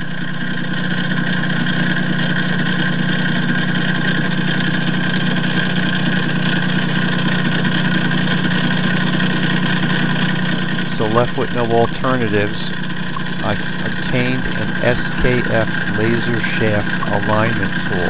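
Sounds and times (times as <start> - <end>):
diesel engine running: 0.0 - 18.0
transmission rattling: 0.0 - 18.0.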